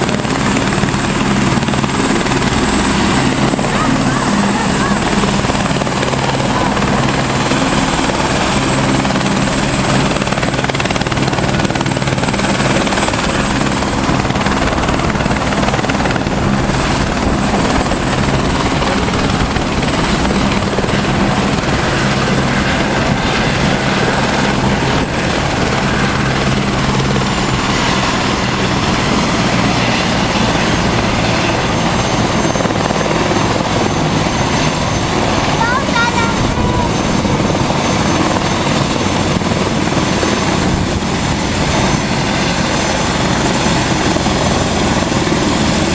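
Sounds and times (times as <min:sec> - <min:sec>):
helicopter rotor thrum: 0:00.0 - 0:45.9
high turbine whine: 0:00.0 - 0:45.9.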